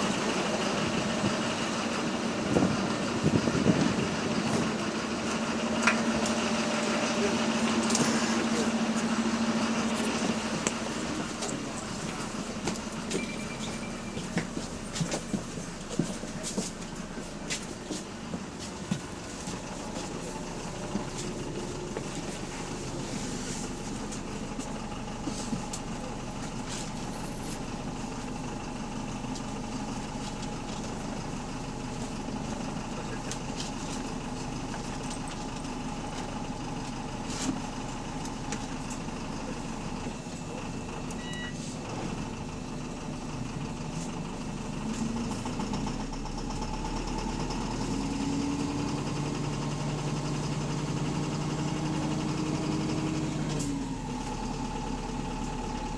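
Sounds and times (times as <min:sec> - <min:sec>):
bus engine humming: 0:00.0 - 0:55.9.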